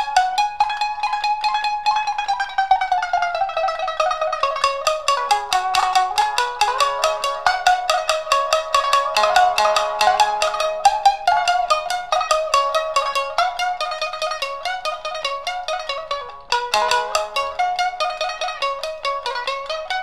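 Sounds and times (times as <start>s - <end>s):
shamisen rapid struck notes: 0.0s - 20.0s.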